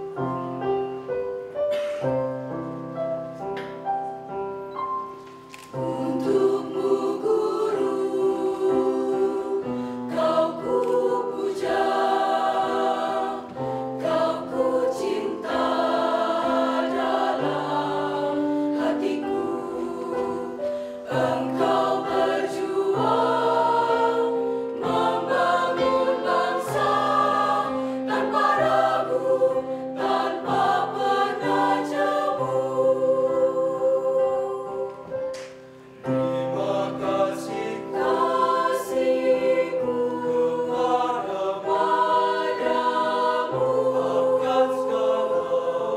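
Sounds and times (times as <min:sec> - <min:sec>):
mixed choir singing: 0:05.7 - 0:35.3, 0:36.0 - 0:45.9.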